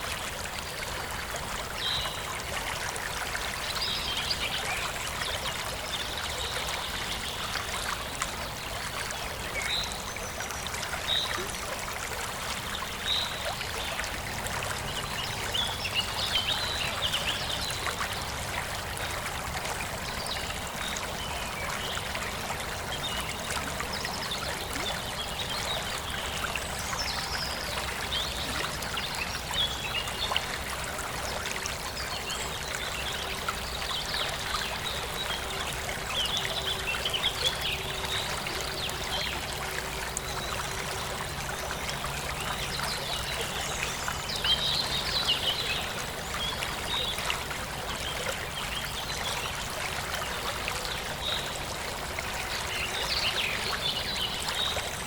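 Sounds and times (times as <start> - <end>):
forest stream trickling: 0.0 - 55.0.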